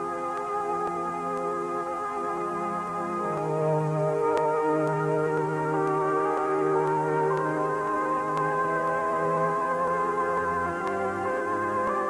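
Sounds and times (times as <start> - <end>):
slow sustained keyboard chords: 0.0 - 12.0.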